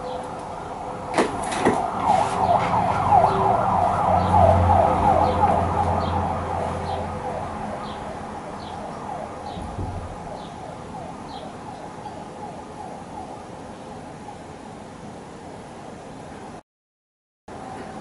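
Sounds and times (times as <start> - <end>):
fire engine siren yelping: 0.0 - 14.6.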